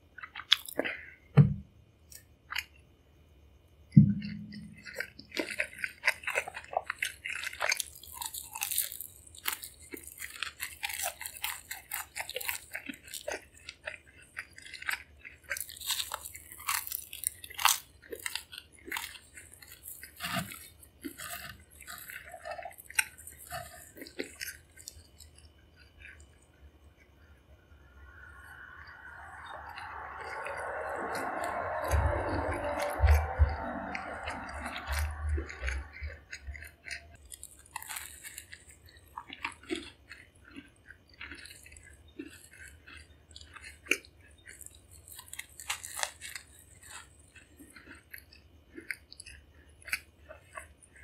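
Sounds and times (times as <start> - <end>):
chewing and crunching churro: 0.0 - 51.0.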